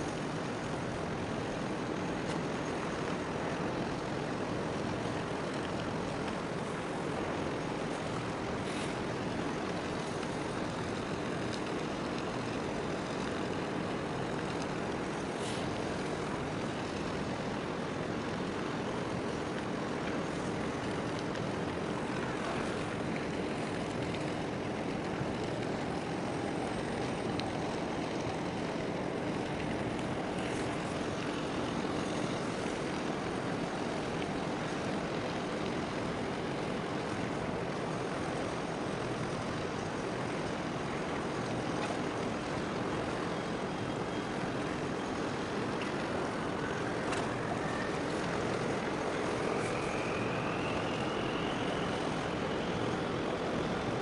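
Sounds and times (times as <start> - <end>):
distant ship engine drone: 0.0 - 54.0
faint steady hum: 0.0 - 54.0.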